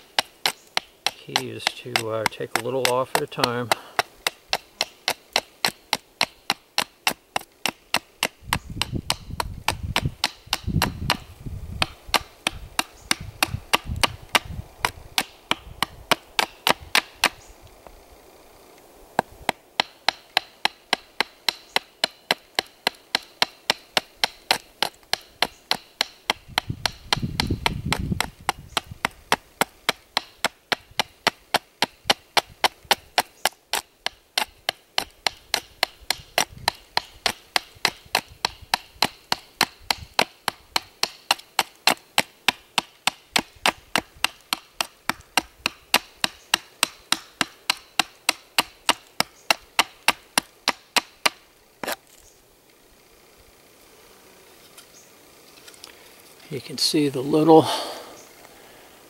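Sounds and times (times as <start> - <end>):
knife chopping wood: 0.0 - 17.4, 19.2 - 52.2.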